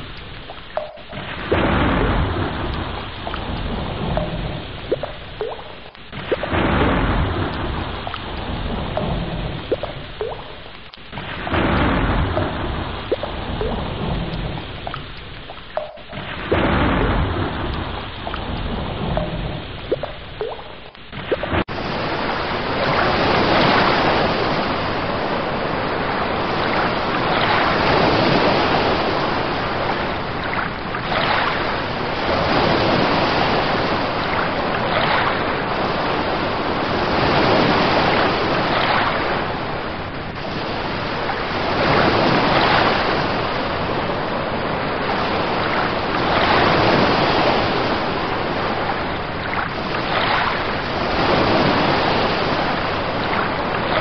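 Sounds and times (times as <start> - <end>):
sea waves washing: 0.0 - 54.0.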